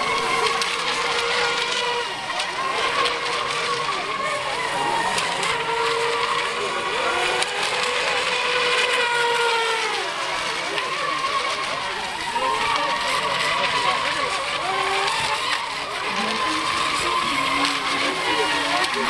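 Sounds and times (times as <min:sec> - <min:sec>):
rc boat motors whining: 0:00.0 - 0:19.0.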